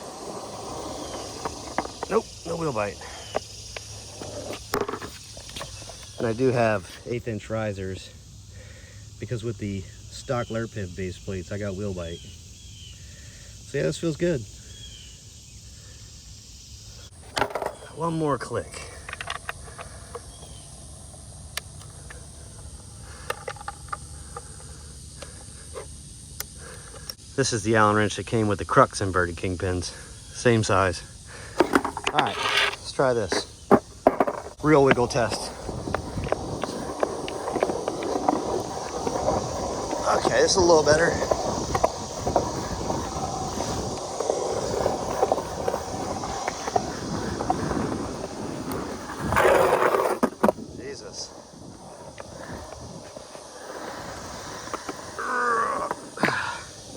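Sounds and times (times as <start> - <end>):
high insect hiss: 0.0 - 56.9
skateboard wheels rolling on concrete: 0.0 - 56.9.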